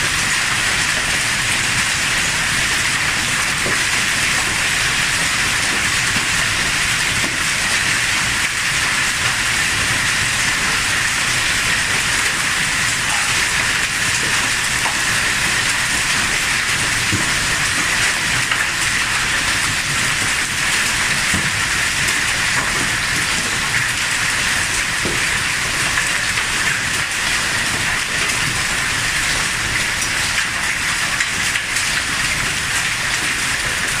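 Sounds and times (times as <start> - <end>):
hail and heavy rain pelting: 0.0 - 34.0.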